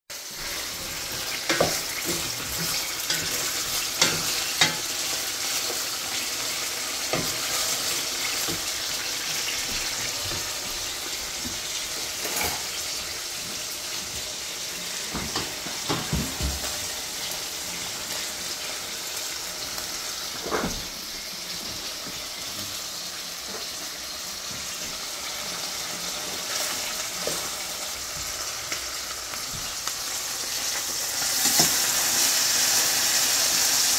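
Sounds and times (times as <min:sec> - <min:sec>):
meat sizzling in a pan: 0:00.1 - 0:33.9.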